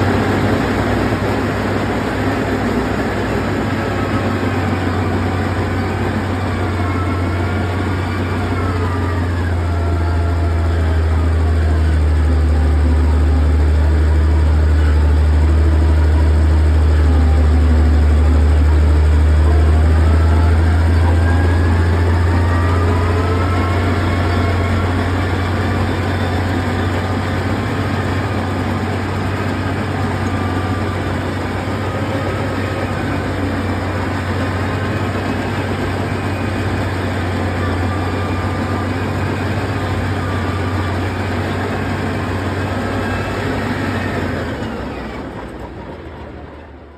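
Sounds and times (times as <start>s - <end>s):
high-pitched whine: 0.0s - 45.5s
heavy equipment engine droning: 0.0s - 46.9s.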